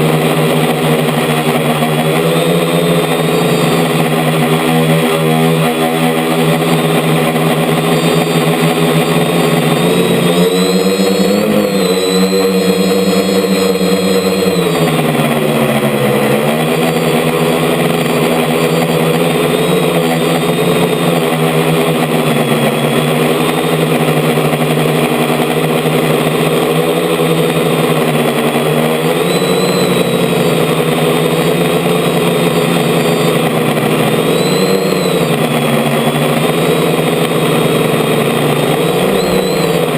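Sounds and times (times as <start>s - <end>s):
quadcopter propellers whirring: 0.0s - 39.9s.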